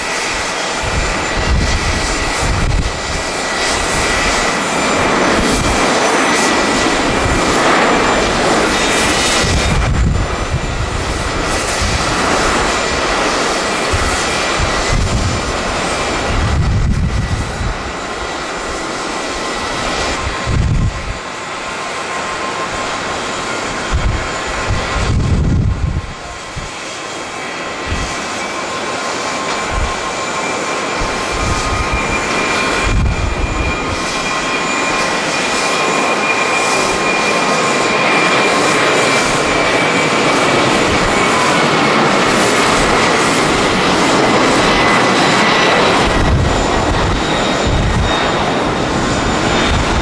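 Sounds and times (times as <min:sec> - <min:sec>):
jet engine roar and whine: 0:00.0 - 0:50.0
wind buffeting microphone: 0:00.0 - 0:50.0.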